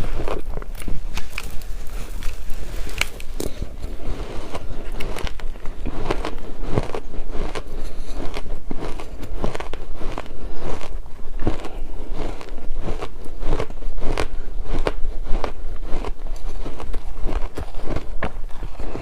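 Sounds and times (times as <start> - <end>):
person crunching ice: 0.0 - 19.0.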